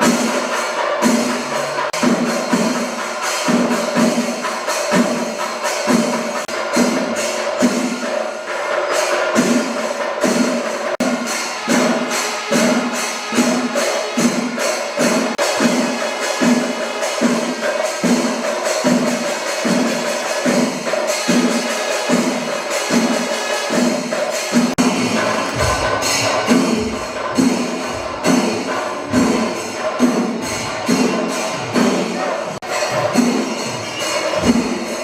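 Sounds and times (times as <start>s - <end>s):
drum beat: 0.0s - 35.0s
jingling cymbal clashes: 0.0s - 35.0s.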